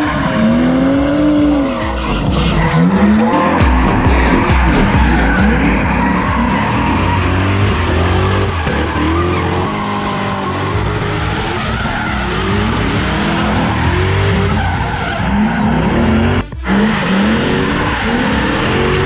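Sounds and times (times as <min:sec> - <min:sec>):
background music with bass line: 0:00.0 - 0:19.0
car engines revving: 0:00.0 - 0:19.0
tyres squealing: 0:00.0 - 0:19.0.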